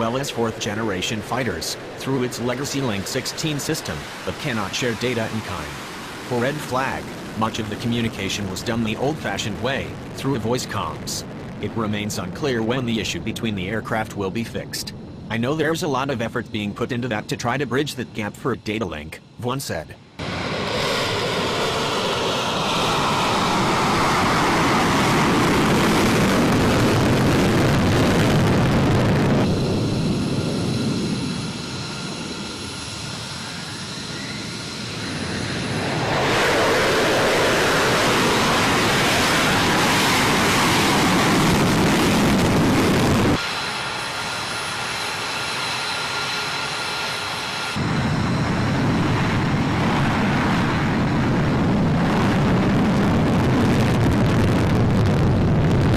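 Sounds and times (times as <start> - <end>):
fighter jet engines running: 0.0 - 55.9.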